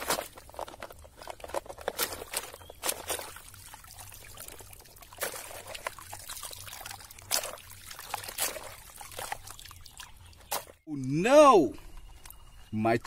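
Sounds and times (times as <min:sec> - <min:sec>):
muddy water trickling and dripping: 0:00.0 - 0:10.9.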